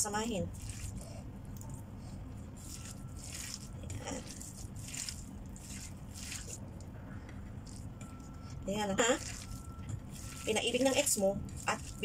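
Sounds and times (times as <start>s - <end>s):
hands squelching wet meat: 0.5s - 12.0s.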